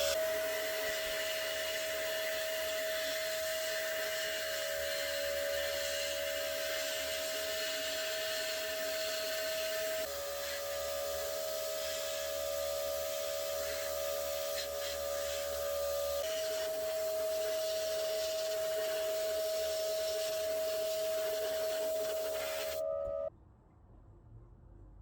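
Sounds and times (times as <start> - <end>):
electric motor whining: 0.0 - 23.3.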